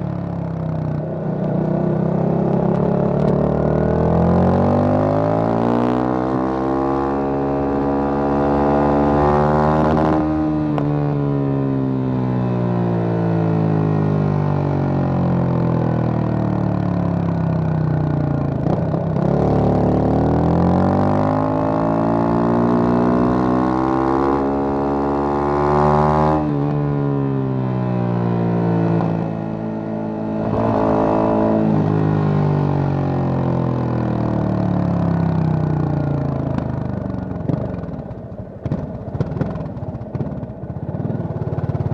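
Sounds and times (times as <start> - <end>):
motorcycle engine revving: 0.0 - 14.8, 15.9 - 41.9.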